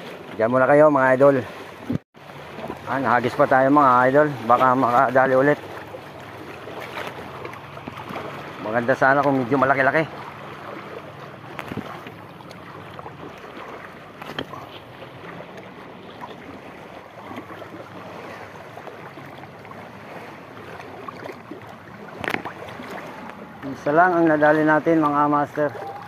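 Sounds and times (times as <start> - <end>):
waves lapping against rocks: 0.0 - 26.0.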